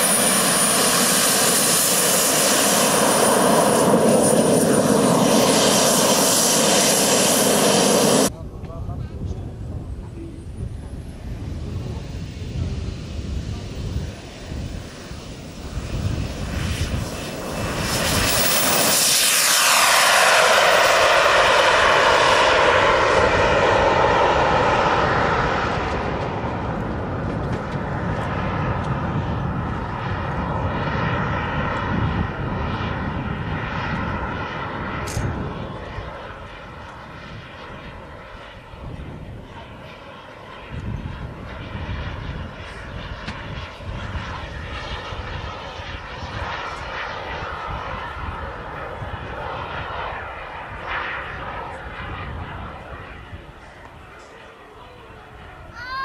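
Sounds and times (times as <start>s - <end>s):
model jet engine whine: 0.0s - 56.0s.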